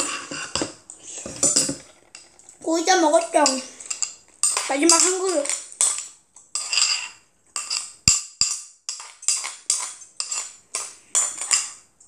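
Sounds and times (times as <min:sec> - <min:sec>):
metal spoon scraping a bowl: 0:00.0 - 0:11.9.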